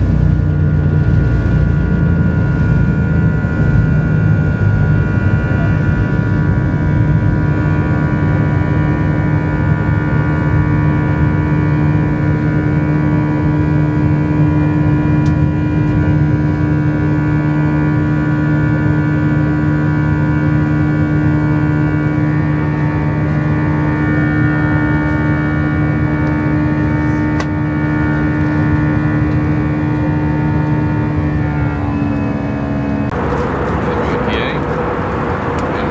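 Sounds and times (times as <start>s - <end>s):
jet engine and airflow drone: 0.0s - 35.9s.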